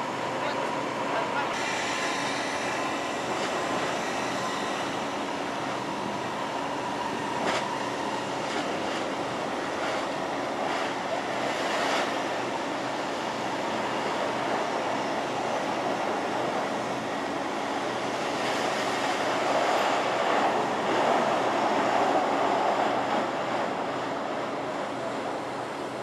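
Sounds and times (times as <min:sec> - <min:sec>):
drilling machinery with whine: 0:00.0 - 0:26.0
water jet hissing: 0:01.5 - 0:24.0.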